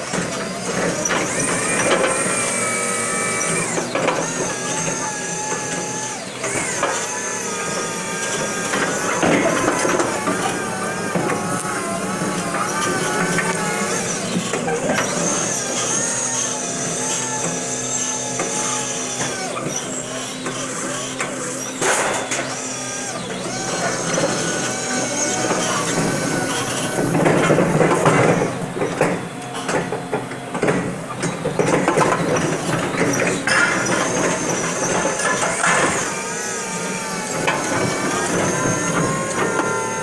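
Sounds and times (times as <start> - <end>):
electric forklift whining hum: 0.0 - 40.0.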